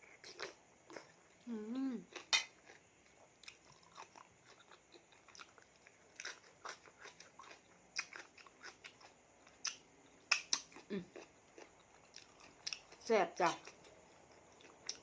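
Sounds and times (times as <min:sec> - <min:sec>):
person chewing food: 0:00.0 - 0:13.0, 0:13.6 - 0:15.0.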